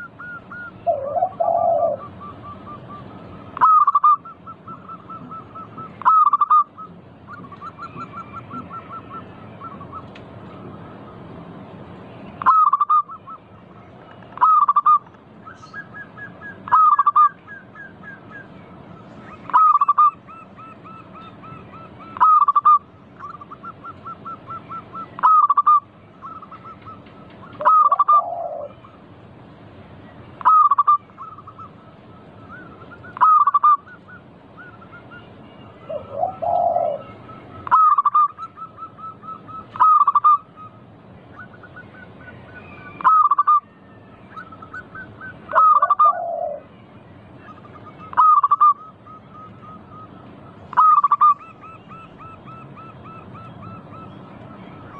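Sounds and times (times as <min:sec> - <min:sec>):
doves cooing: 0:00.0 - 0:11.5, 0:14.3 - 0:29.2, 0:30.3 - 0:35.2, 0:35.8 - 0:46.7, 0:47.4 - 0:54.9
rapid repeated bird notes: 0:00.0 - 0:54.9.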